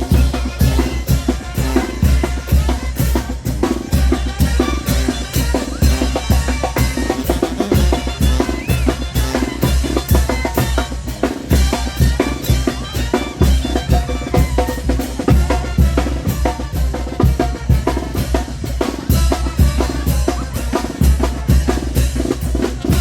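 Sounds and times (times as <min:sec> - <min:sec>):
bass drum and snare beat: 0:00.0 - 0:23.0.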